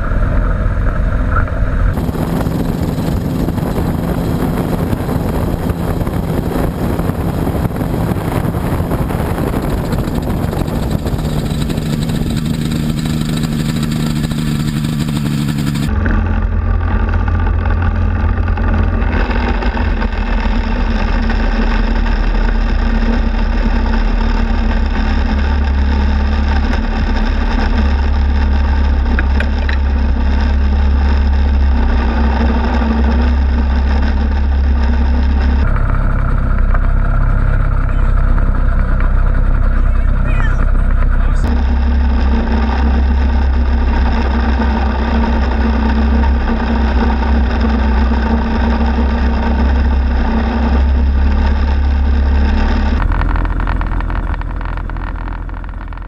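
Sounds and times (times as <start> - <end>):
ultralight engine and propeller: 0.0 - 56.0.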